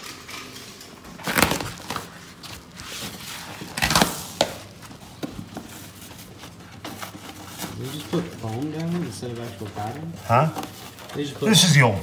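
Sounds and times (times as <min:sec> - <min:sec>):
carpet rustling: 0:01.2 - 0:12.0.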